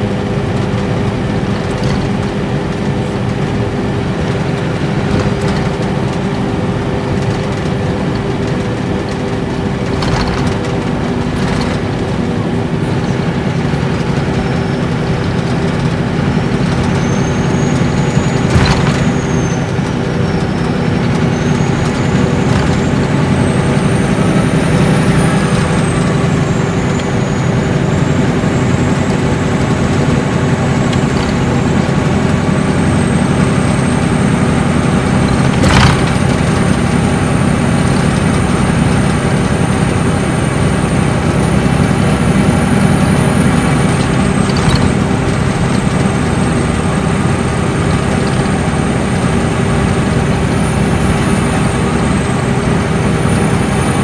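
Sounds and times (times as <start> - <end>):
diesel engine humming: 0.0 - 54.0
road and tyre noise: 0.0 - 54.0.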